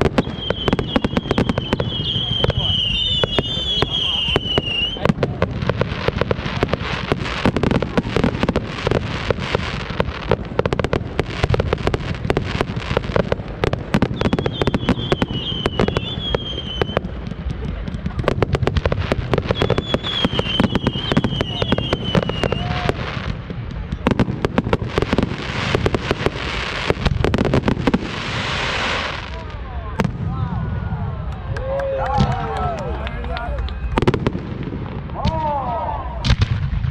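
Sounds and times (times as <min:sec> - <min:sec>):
fireworks bangs and crackles: 0:00.0 - 0:36.9.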